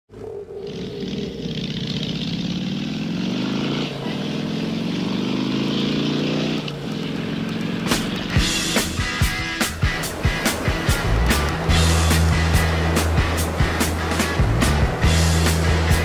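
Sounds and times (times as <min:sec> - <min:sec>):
motorcycle engine accelerating: 0:00.1 - 0:16.0.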